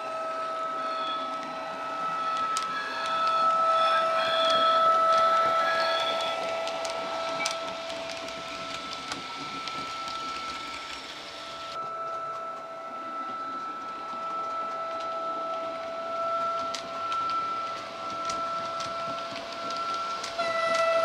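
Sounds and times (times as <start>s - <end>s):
model train electric whine: 0.0s - 21.0s
model train rattling on track: 0.0s - 21.0s.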